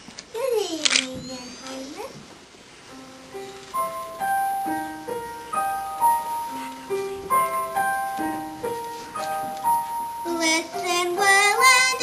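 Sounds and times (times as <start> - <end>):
piano broken chords: 1.2 - 12.0.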